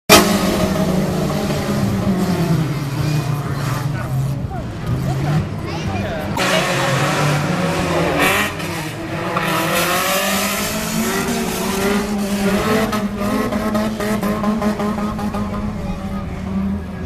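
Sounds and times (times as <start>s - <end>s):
racing car engines revving: 0.1s - 17.0s.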